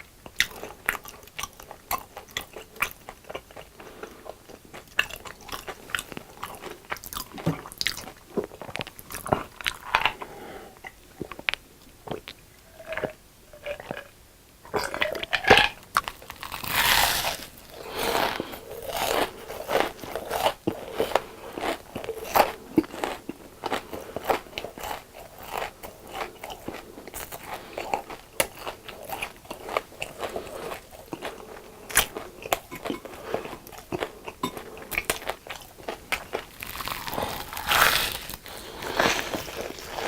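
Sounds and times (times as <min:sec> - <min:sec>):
crunching and chewing crisp food: 0:00.0 - 0:40.0.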